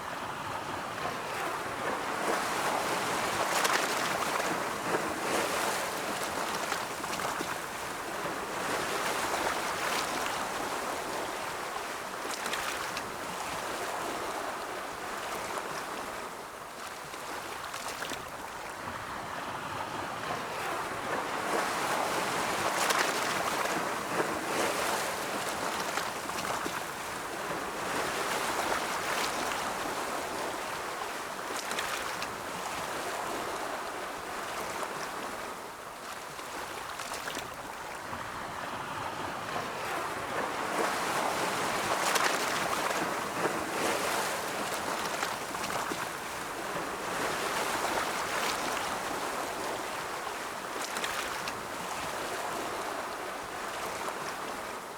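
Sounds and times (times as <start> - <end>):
ocean waves washing ashore: 0.0 - 54.9.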